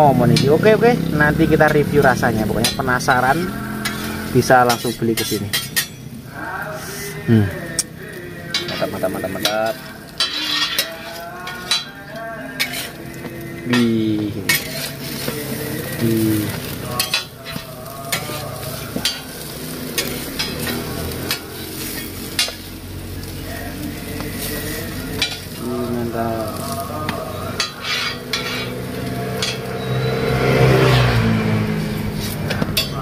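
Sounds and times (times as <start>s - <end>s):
bread sizzling on a griddle: 0.0s - 33.0s
metal spatulas scraping a griddle: 2.3s - 7.2s, 8.4s - 31.2s, 31.8s - 33.0s.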